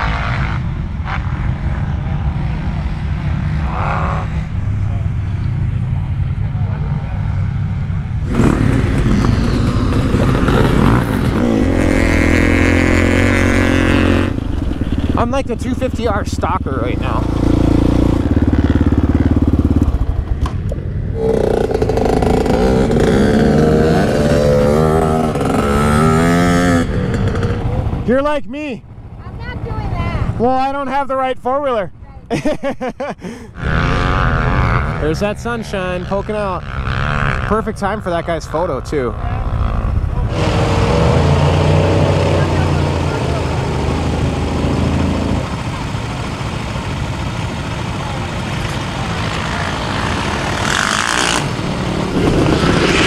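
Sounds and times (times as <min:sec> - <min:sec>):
engines rumbling: 0:00.0 - 0:53.0.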